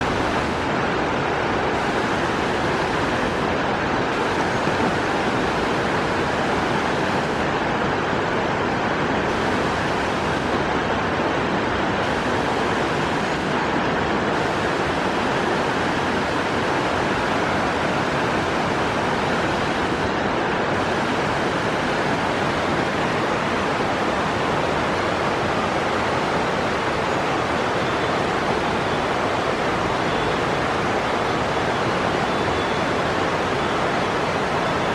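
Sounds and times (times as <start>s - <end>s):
steady rushing noise: 0.0s - 34.9s.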